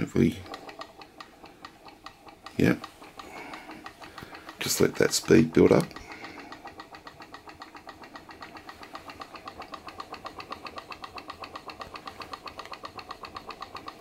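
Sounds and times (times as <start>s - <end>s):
stirling engine clicking steadily: 0.0s - 14.0s.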